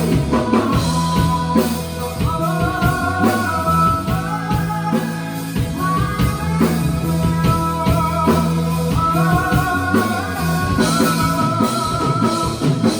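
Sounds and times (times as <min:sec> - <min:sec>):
person singing long notes: 0:00.0 - 0:12.9
rock band playing live: 0:00.0 - 0:12.9
steady drum beat: 0:00.0 - 0:12.9.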